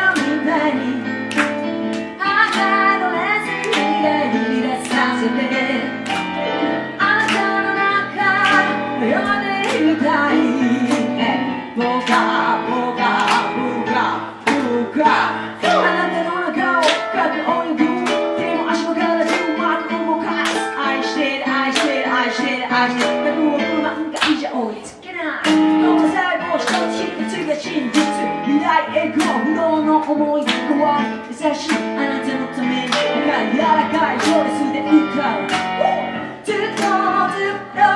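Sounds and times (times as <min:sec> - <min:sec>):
instrumental music with steady beat: 0:00.0 - 0:24.5, 0:25.5 - 0:37.9
woman singing into microphone: 0:00.0 - 0:37.9.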